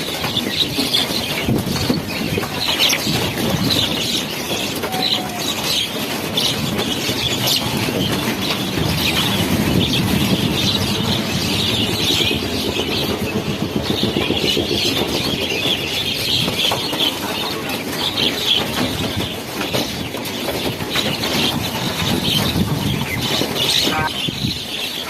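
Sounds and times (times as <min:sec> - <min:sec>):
flock of birds chirping: 0:00.0 - 0:25.0.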